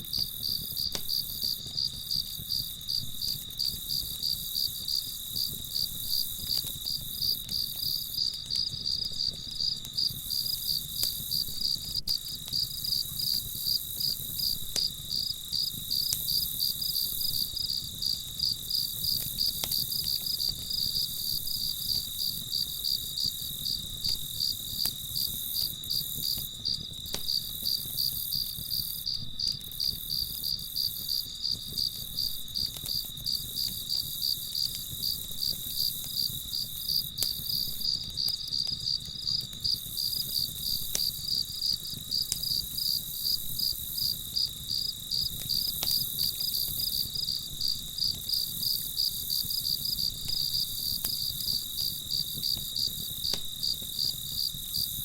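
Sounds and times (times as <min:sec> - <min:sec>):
crickets chirping: 0:00.1 - 0:55.0.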